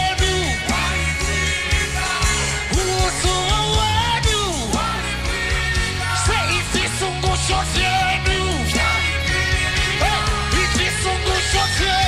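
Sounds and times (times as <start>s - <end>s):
band playing gospel music: 0.0s - 12.0s
person singing: 0.0s - 12.0s.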